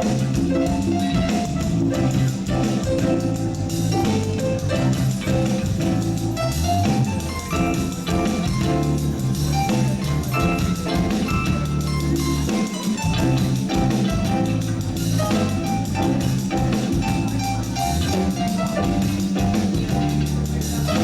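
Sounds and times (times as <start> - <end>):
heavy bass line: 0.0 - 21.0
reggae band playing: 0.0 - 21.0.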